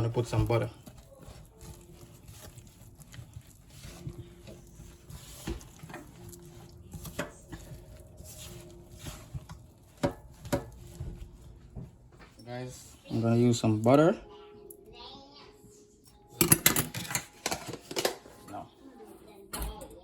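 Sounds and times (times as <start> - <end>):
soft stirring in a bowl: 0.0 - 20.0.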